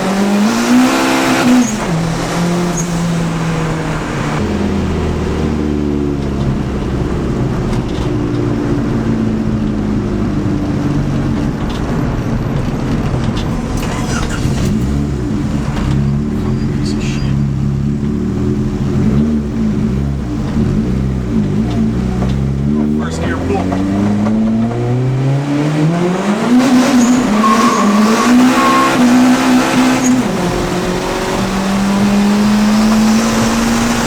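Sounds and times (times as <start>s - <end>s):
turbocharged engine revving: 0.0s - 11.6s, 13.5s - 34.0s.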